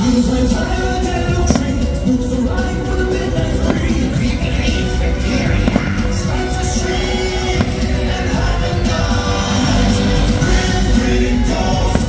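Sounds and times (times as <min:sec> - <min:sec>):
firework bangs: 0:00.0 - 0:12.0
music with singing over loudspeakers: 0:00.0 - 0:12.0.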